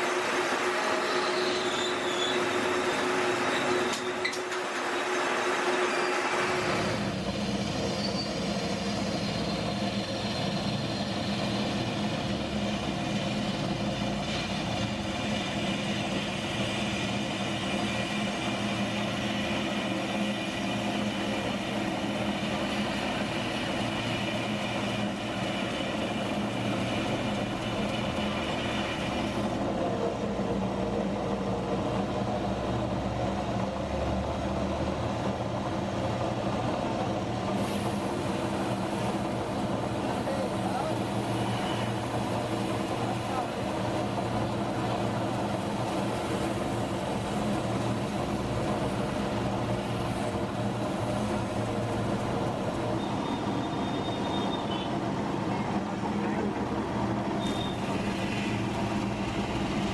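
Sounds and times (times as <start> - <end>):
workshop machine humming: 0.0 - 59.9.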